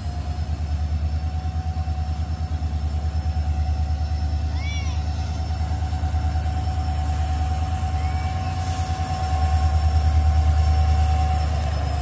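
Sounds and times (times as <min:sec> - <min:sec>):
diesel locomotive engine throbbing: 0:00.0 - 0:12.0
locomotive high whine: 0:00.0 - 0:12.0.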